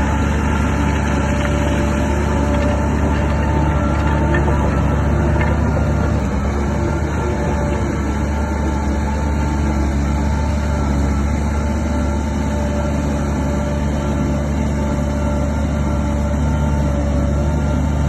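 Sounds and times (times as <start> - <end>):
bulldozer diesel engine droning: 0.0 - 18.0.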